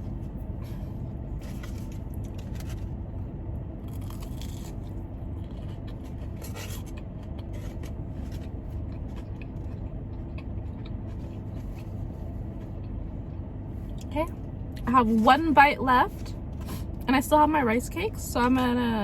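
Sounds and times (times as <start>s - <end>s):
car air conditioning drone: 0.0s - 19.0s.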